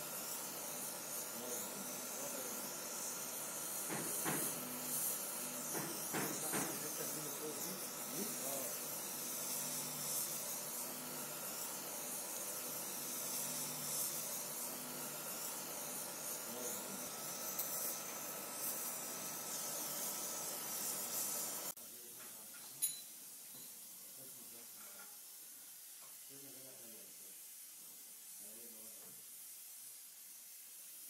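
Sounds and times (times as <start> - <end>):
gas torch flame hissing: 0.0 - 31.0.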